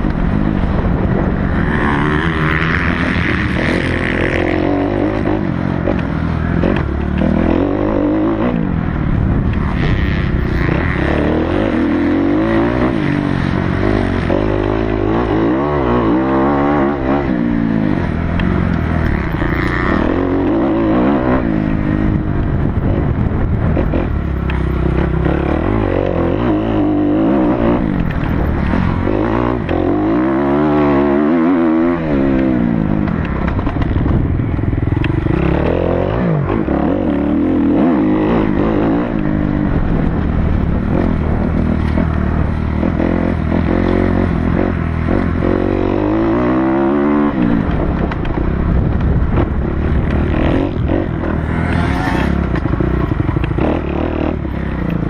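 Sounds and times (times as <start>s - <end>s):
motocross bike engine racing: 0.0s - 55.0s.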